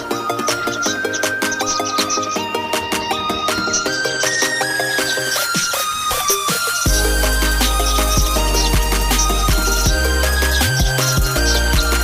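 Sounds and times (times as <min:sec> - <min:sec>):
electronic music with plucked notes: 0:00.0 - 0:12.0.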